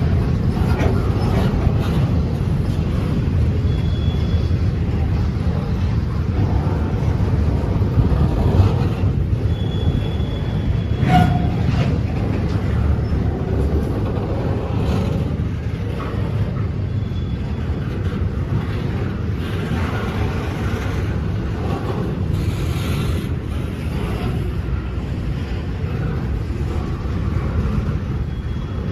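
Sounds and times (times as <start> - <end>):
train rumbling past: 0.0 - 28.9.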